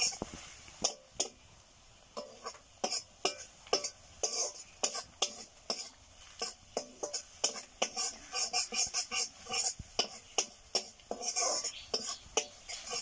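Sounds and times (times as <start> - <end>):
spatula scraping iron pan: 0.0 - 1.4, 2.2 - 13.0.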